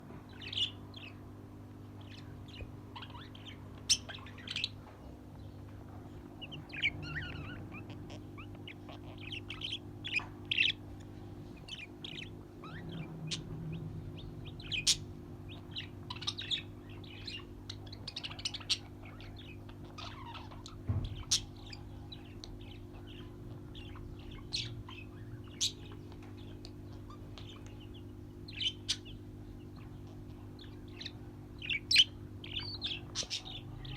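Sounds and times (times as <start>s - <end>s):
birds chirping and tweeting: 0.0s - 33.9s
steady low hum: 0.0s - 33.9s.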